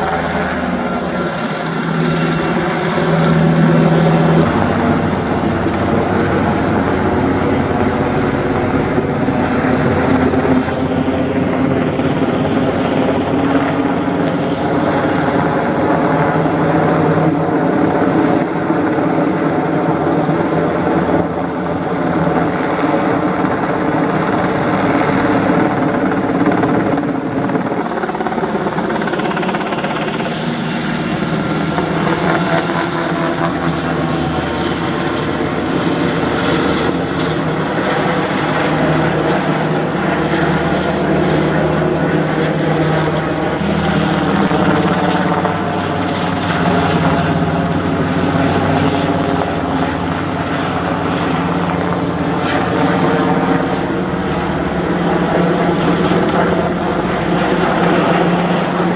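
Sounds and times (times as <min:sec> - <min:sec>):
helicopter flying overhead: 0:00.0 - 0:58.9.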